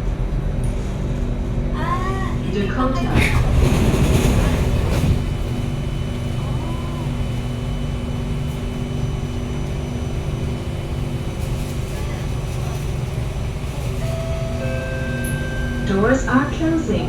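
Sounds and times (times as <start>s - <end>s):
metro train humming: 0.0s - 17.0s.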